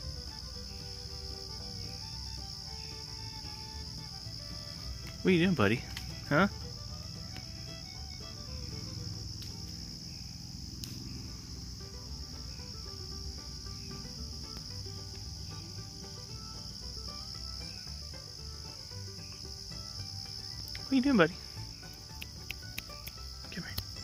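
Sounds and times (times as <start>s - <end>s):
faint music: 0.0s - 24.0s
insects chorus: 0.0s - 24.0s
low hum: 0.0s - 24.0s.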